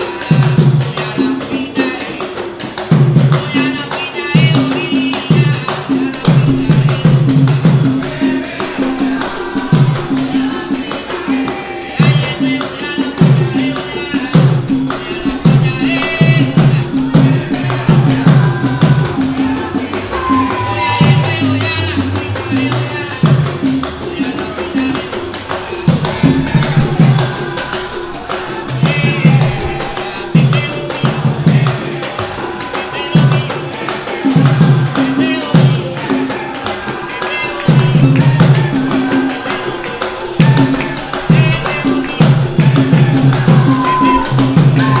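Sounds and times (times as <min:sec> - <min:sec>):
hand drums playing: 0:00.0 - 0:45.0
person singing: 0:00.0 - 0:45.0.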